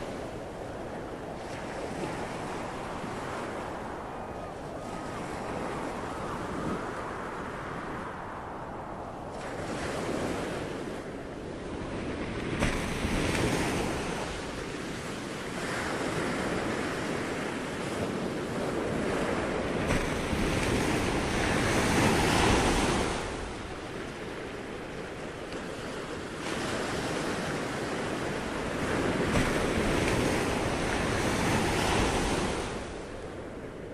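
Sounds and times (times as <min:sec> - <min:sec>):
ocean waves washing in: 0:00.0 - 0:33.9.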